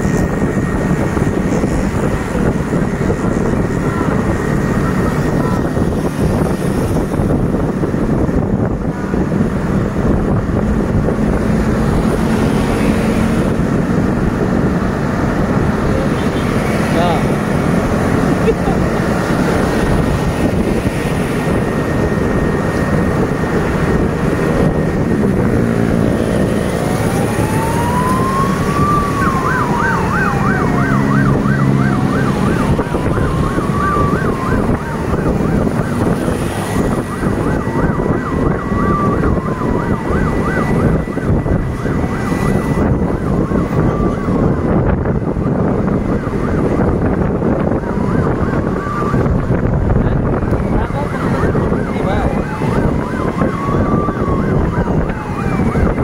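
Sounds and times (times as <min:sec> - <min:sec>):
road and wind noise: 0:00.0 - 0:56.0
vehicle siren wailing: 0:00.0 - 0:56.0.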